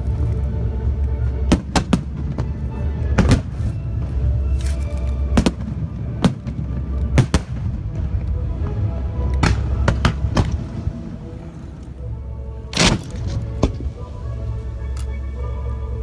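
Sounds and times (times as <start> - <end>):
background music: 0.0 - 16.0
low rumble: 0.0 - 16.0.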